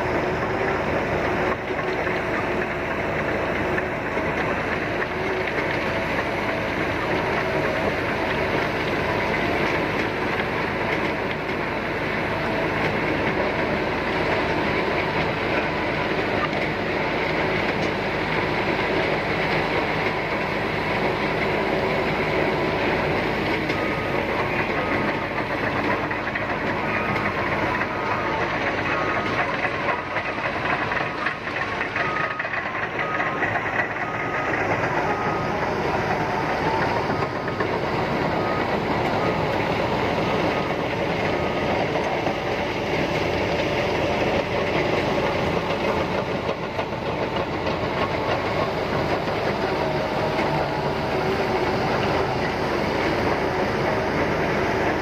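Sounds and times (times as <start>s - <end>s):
bulldozer diesel engine: 0.0s - 55.0s
steel tracks clattering: 0.0s - 55.0s.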